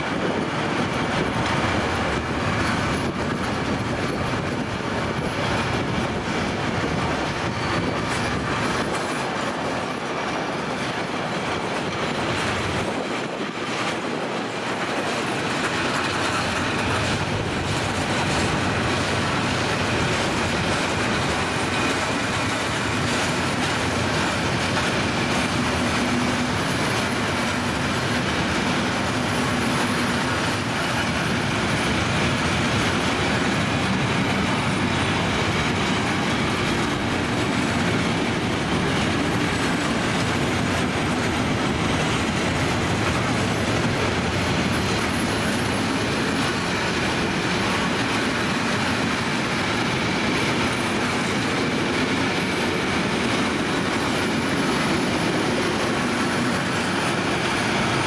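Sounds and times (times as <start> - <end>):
freight train wheels on track: 0.0 - 58.0.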